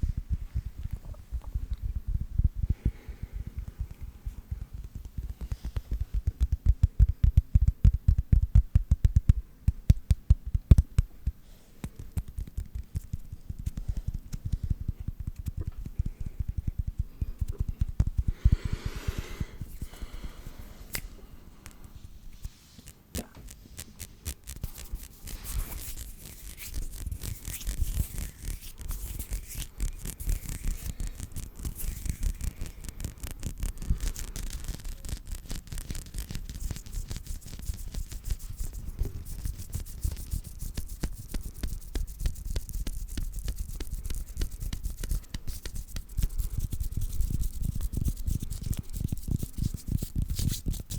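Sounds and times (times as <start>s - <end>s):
hands rubbing together: 10.0s - 50.9s.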